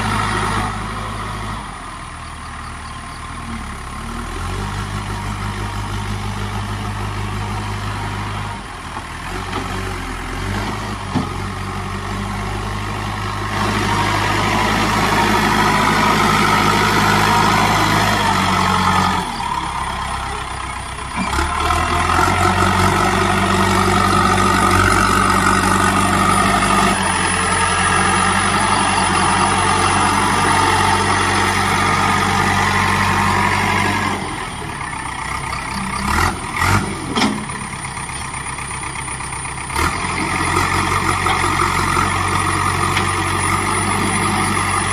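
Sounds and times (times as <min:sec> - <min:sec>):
diesel engine revving under load: 0:00.0 - 0:44.9.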